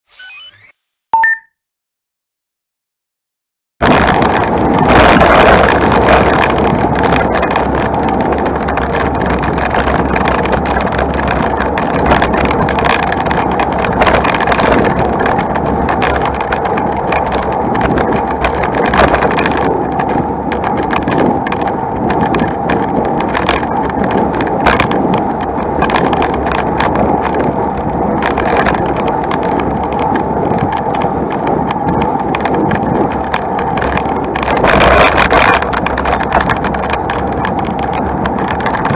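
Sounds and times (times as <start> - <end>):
bicycle rattles and clicks: 3.8 - 38.9
bicycle rumbling: 3.8 - 38.9.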